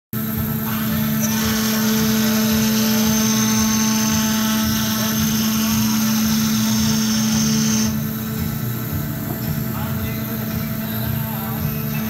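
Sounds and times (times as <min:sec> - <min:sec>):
cutting hiss: 0:00.2 - 0:12.0
low hum: 0:00.2 - 0:12.0
router spindle whine: 0:00.2 - 0:12.0.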